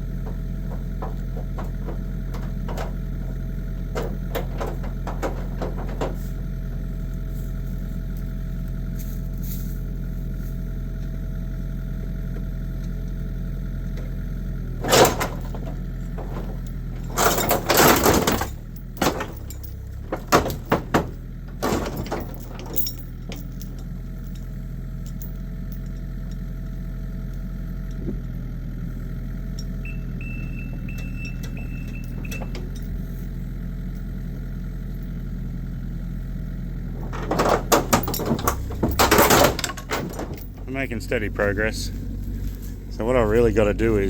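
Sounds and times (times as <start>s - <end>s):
metallic knocks and crunches: 0.0s - 7.1s, 13.9s - 44.0s
excavator engine running: 0.0s - 44.0s.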